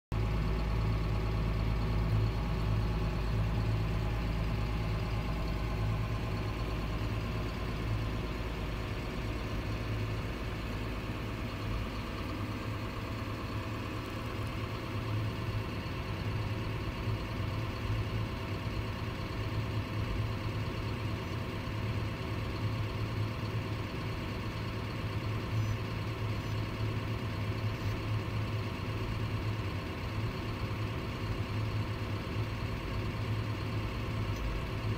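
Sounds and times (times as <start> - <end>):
motor humming at low speed: 0.2 - 34.9.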